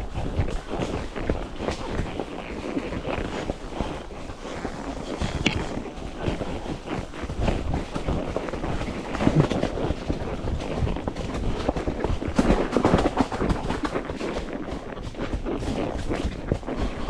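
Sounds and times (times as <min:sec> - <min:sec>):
horse hoof steps: 0:00.0 - 0:17.0
rustling: 0:00.6 - 0:17.0.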